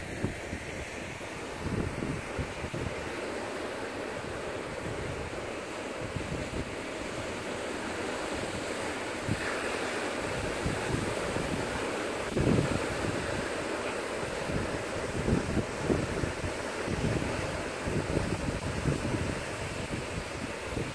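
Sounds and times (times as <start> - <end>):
wind buffeting microphone: 0.0 - 3.2, 4.2 - 7.4, 8.4 - 20.9
ocean surf breaking on rocks: 0.0 - 20.9.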